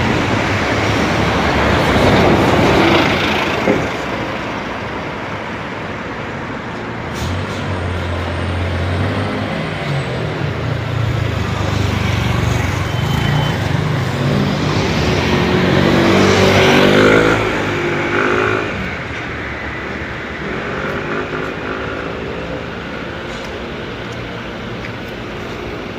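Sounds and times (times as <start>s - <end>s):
bus engine passing: 0.0s - 25.9s.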